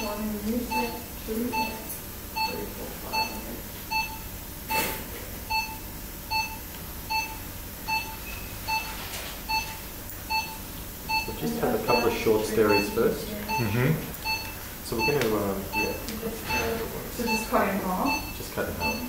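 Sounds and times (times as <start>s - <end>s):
patient monitor beeping: 0.0s - 19.0s.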